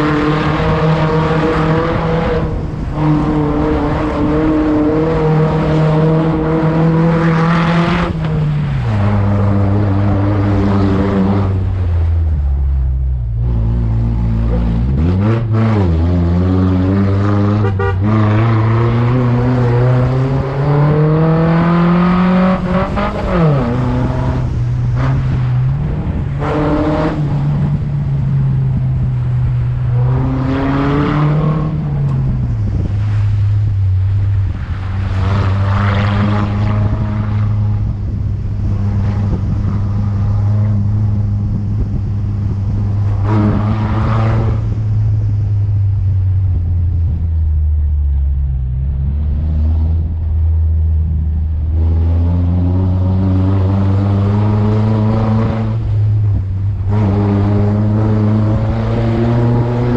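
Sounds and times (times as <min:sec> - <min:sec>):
off-road vehicle engine under load: 0:00.0 - 0:59.9.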